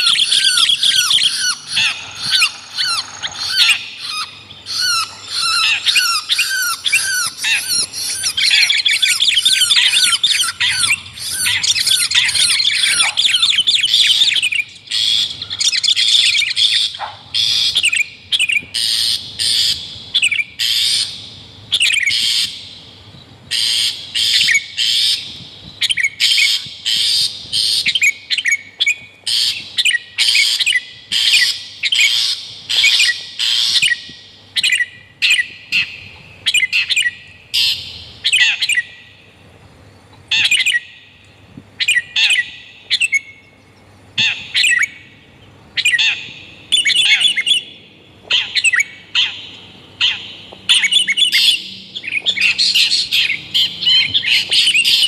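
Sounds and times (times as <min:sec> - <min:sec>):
harsh high-pitched bird calls: 0:00.0 - 0:39.4, 0:40.3 - 0:55.0.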